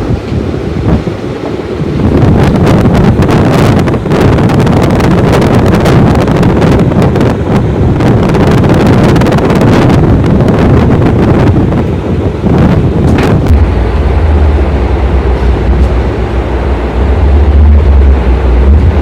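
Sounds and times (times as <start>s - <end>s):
ceiling fan wind buffeting microphone: 0.0s - 19.0s.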